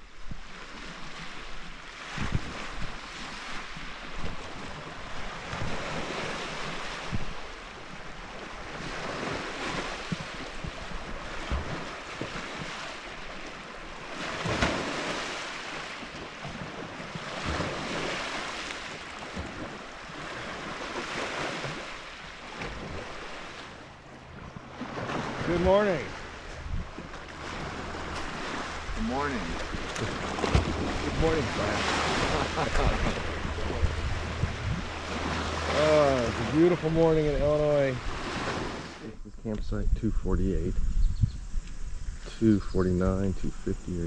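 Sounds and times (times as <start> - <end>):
surf washing onto beach: 0.0 - 39.6
wind buffeting microphone: 0.0 - 44.0.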